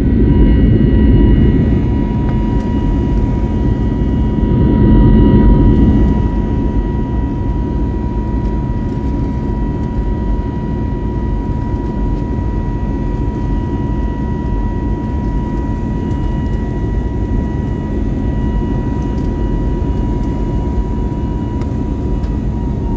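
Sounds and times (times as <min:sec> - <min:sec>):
jet engine rumble: 0:00.0 - 0:22.9
steady whine: 0:00.0 - 0:22.9.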